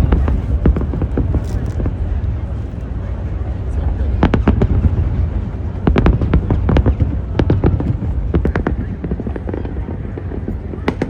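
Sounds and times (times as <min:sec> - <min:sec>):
fireworks popping and crackling: 0:00.0 - 0:11.0
steady low rumble: 0:00.0 - 0:11.0.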